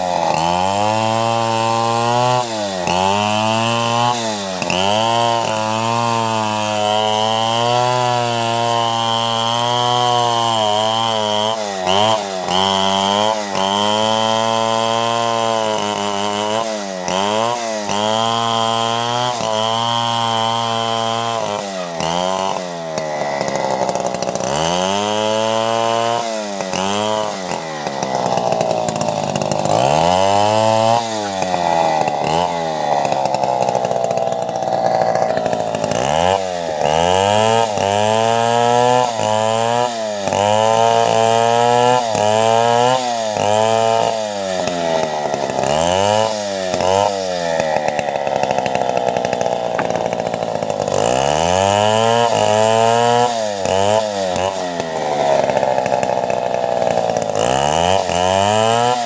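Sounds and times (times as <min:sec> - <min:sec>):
chainsaw ripping a log: 0:00.0 - 0:59.0.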